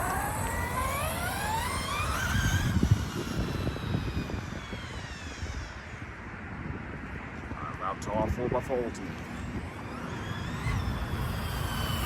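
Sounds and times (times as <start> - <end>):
engine whine: 0.0 - 12.0.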